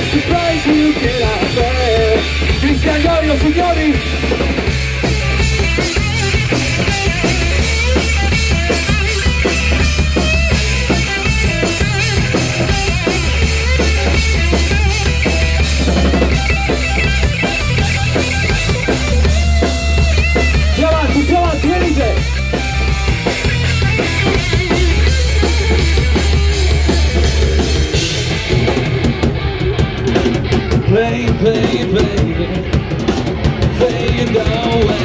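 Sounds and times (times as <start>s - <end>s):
bass guitar: 0.0s - 35.0s
drum kit: 0.0s - 35.0s
electric guitar lead with bending notes: 0.0s - 35.0s.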